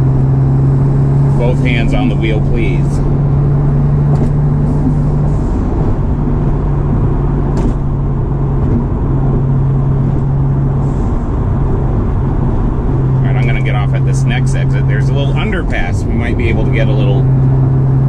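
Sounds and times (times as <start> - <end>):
car engine droning: 0.0 - 18.0
road and wind noise: 0.0 - 18.0.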